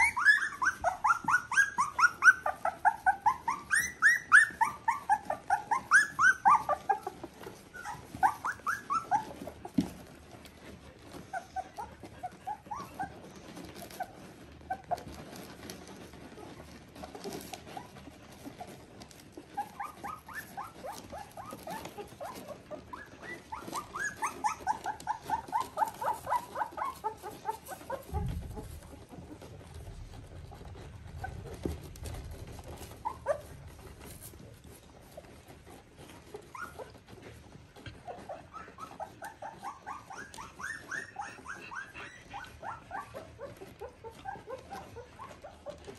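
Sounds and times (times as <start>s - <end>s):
puppies squeaking and whimpering: 0.0s - 45.9s.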